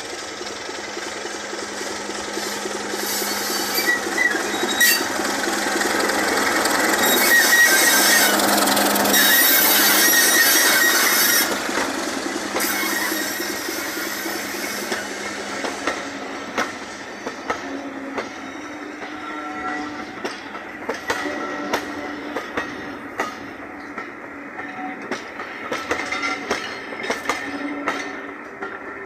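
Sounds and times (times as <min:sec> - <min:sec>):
train wheels clicking over rail joints: 0:00.0 - 0:29.0
train wheel squeals: 0:01.7 - 0:05.4, 0:06.1 - 0:29.0.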